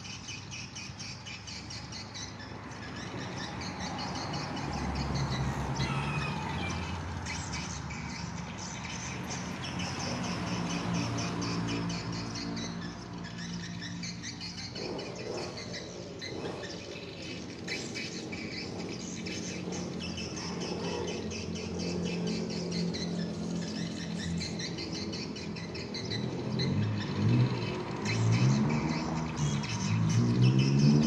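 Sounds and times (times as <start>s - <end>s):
swiftlets chirping and twittering: 0.0s - 31.0s.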